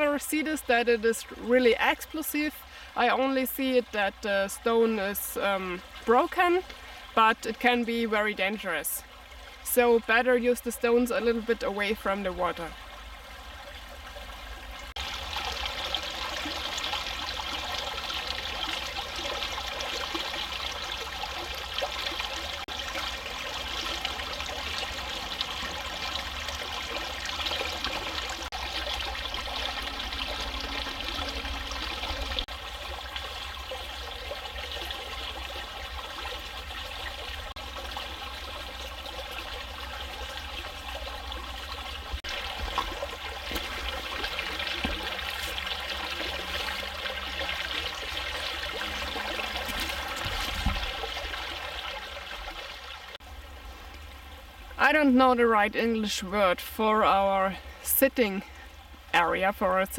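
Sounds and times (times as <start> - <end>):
creek running over stones: 0.0 - 59.9.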